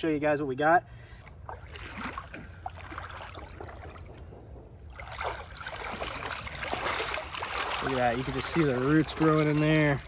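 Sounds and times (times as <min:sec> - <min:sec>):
water sloshing and dripping: 0:01.0 - 0:10.0
water pouring and splashing: 0:01.2 - 0:10.0.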